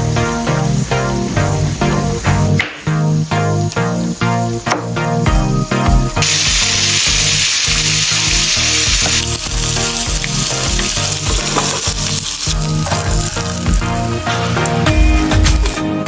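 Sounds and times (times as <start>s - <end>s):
background music with steady beat: 0.0s - 16.0s
food sizzling in hot oil: 0.0s - 16.0s.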